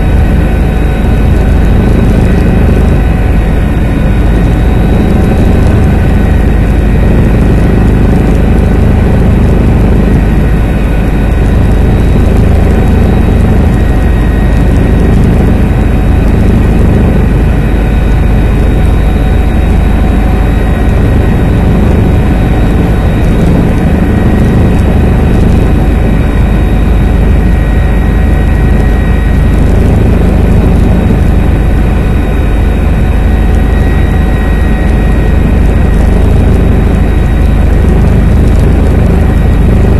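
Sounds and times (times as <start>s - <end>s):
helicopter rotor and engine drone: 0.0s - 39.9s
high whine: 0.0s - 39.9s.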